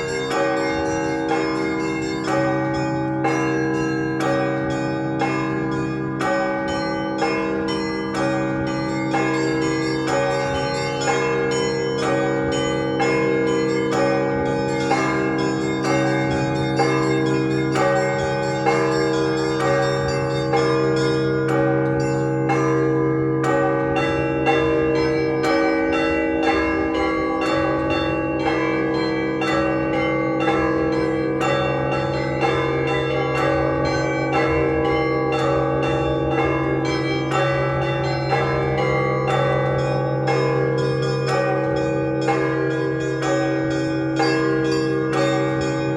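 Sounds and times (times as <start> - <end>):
large bells humming: 0.0 - 45.9
small church bells ringing rapidly: 0.0 - 45.9.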